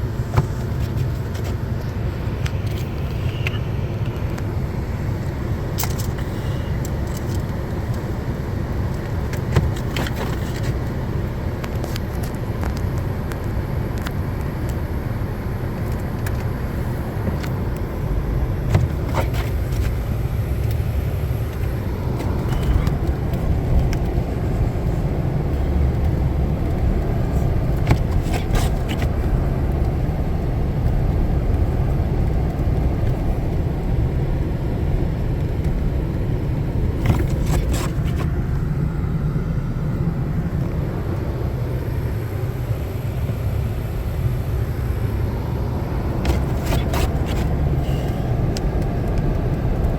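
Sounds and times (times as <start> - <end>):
vehicle engine low rumble: 0.0 - 49.9.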